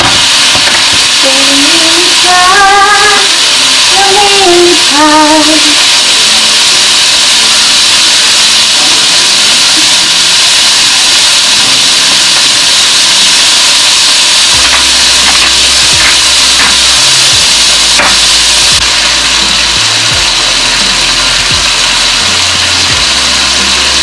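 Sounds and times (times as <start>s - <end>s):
food sizzling in a wok: 0.0s - 24.0s.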